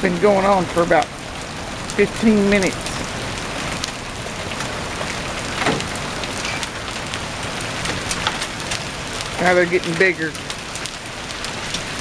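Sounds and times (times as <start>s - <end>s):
hailstones ticking on concrete: 0.0s - 12.0s
rain hissing: 0.0s - 12.0s.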